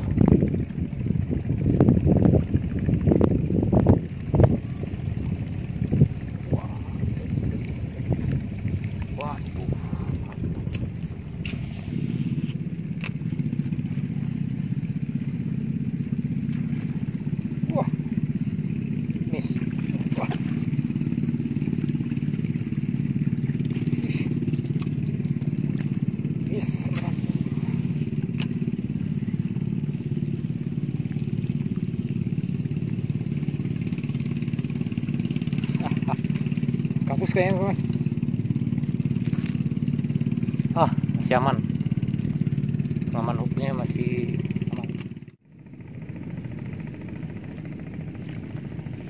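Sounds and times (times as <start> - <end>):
small engine puttering: 0.0 - 49.0.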